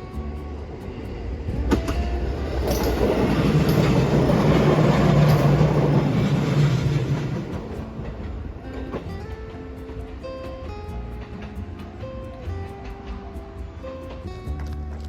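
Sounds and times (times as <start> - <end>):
train wheels rumbling: 0.1 - 14.6.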